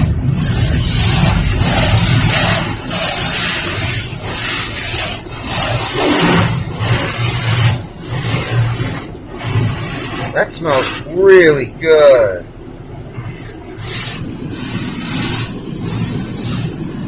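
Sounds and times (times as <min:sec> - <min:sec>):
car wash water spray hissing: 0:00.0 - 0:12.4, 0:13.2 - 0:17.0
steady low hum: 0:00.0 - 0:17.0.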